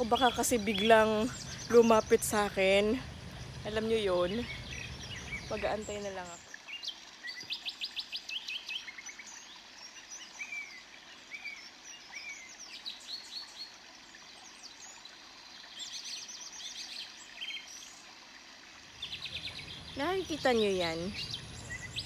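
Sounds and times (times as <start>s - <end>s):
birds chirping: 0.0s - 18.0s, 19.0s - 22.0s.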